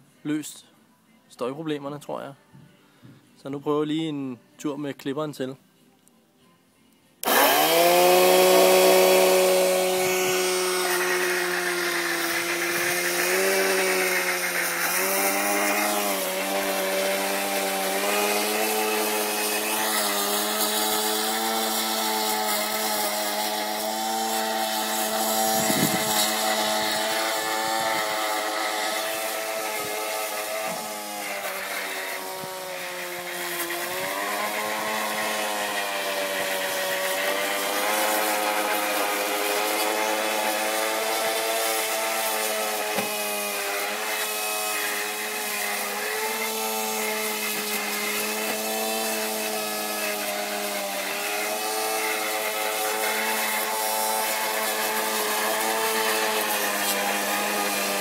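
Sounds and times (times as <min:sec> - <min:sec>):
electric motor whine: 0:07.2 - 0:58.0.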